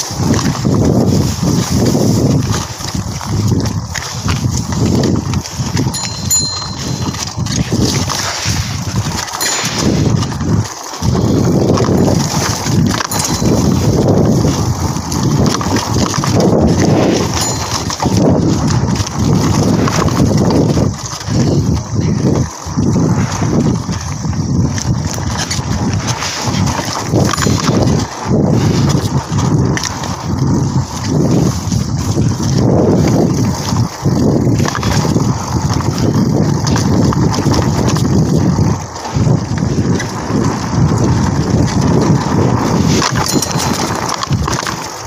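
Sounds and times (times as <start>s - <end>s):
mountain bike rattling over dirt trail: 0.0s - 45.0s.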